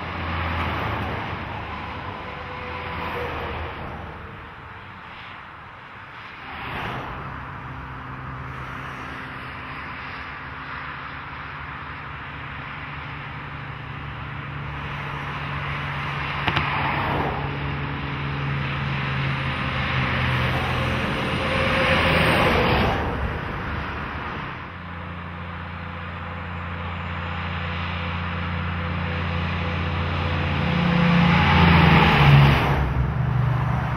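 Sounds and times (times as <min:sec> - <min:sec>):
rush of tyres: 0:00.0 - 0:33.9
vehicle engines droning: 0:00.0 - 0:33.9.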